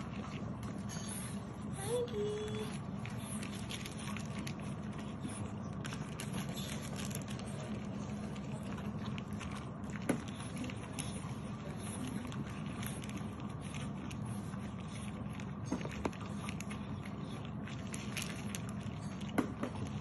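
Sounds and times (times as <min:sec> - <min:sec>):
puppies crunching dry kibble: 0:00.0 - 0:20.0
steady low hum: 0:00.0 - 0:20.0.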